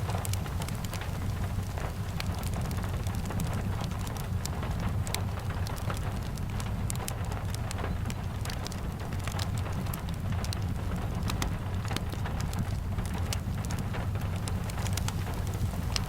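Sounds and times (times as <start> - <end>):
sharp ticks of raindrops: 0.0 - 16.0
steady rain: 0.0 - 16.0.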